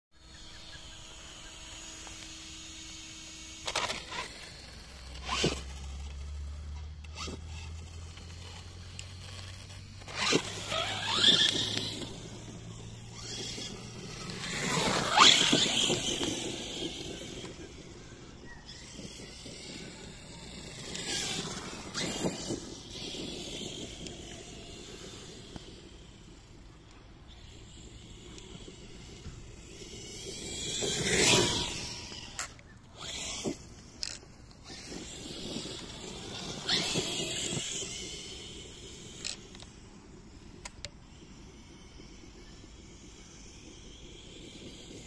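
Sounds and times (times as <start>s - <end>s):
rc car electric motor whining: 0.1s - 45.0s.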